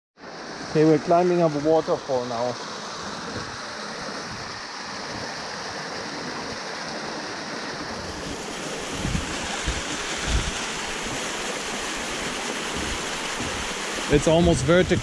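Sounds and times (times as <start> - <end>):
waterfall rushing: 0.2 - 15.0.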